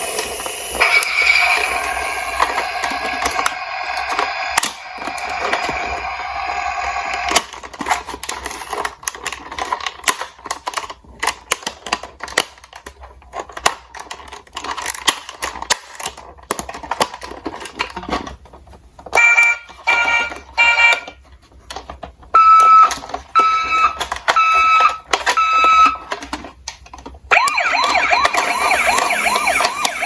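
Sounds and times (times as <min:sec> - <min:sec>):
toy cars clattering: 0:00.0 - 0:30.0.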